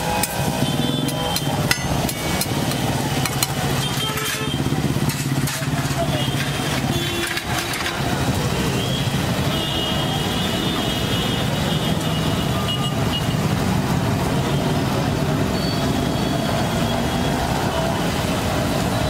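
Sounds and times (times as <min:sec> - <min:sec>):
traffic rumbling: 0:00.0 - 0:19.0.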